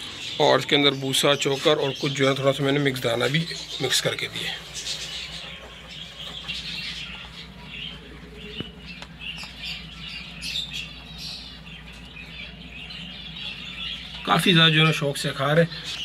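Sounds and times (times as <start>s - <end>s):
small birds chirping and squawking: 0.0s - 16.0s.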